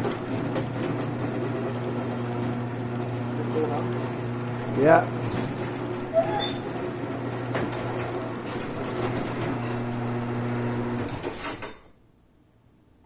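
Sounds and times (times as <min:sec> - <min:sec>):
garage door opener motor humming: 0:00.0 - 0:11.8.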